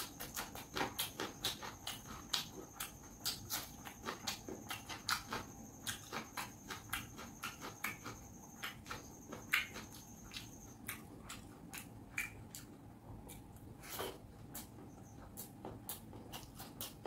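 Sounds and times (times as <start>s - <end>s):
wet chewing and mouth smacking: 0.0s - 17.0s.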